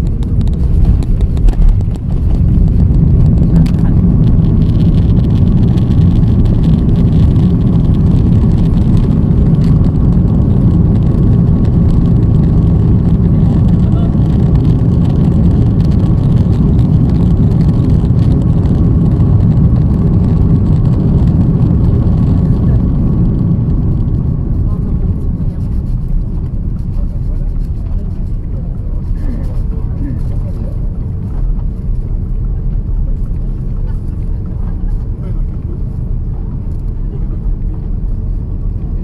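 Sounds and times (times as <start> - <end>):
jet cabin engine rumble: 0.0 - 39.0.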